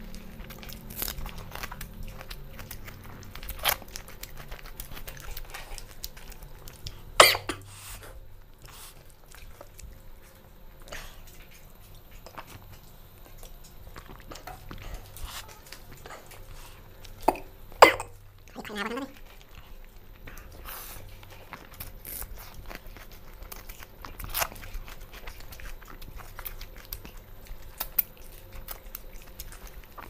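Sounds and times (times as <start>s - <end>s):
chewing: 0.0s - 30.0s.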